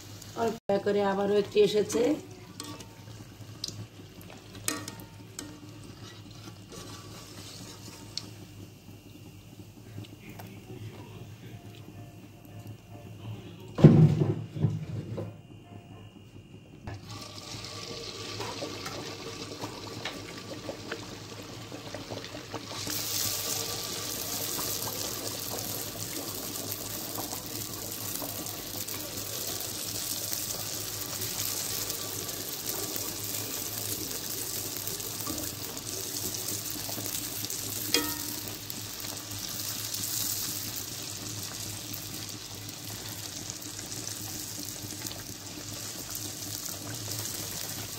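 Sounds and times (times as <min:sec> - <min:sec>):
food deep-frying in hot oil: 0:00.0 - 0:11.5, 0:16.8 - 0:47.9.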